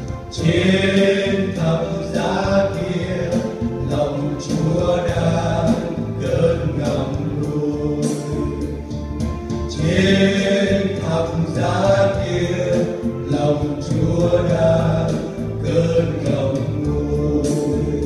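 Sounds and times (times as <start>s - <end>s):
male quartet singing a hymn: 0.0s - 18.0s
musical accompaniment: 0.0s - 18.0s.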